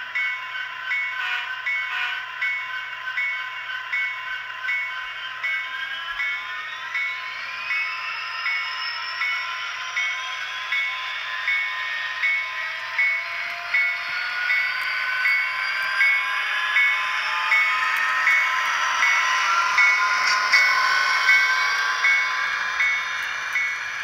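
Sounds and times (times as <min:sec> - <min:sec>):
locomotive bell ringing: 0:00.1 - 0:24.0
rising whine: 0:03.9 - 0:24.0.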